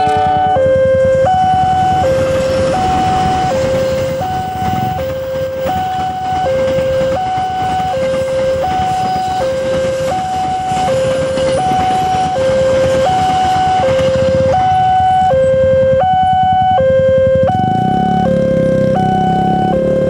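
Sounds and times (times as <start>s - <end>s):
train rumbling past: 0.0s - 18.8s
two-tone crossing alarm: 0.0s - 20.0s.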